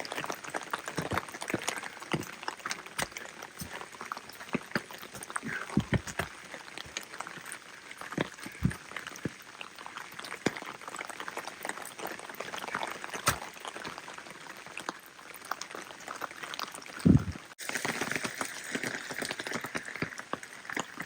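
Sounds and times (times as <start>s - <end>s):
rain dripping and pattering: 0.0s - 21.0s.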